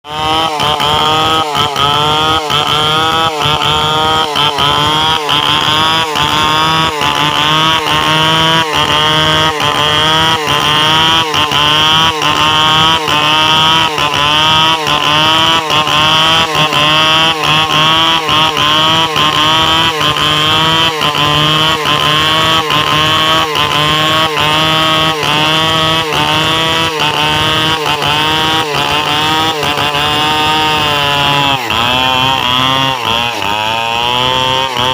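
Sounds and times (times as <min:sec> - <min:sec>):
chainsaw running at high revs: 0:00.0 - 0:34.9.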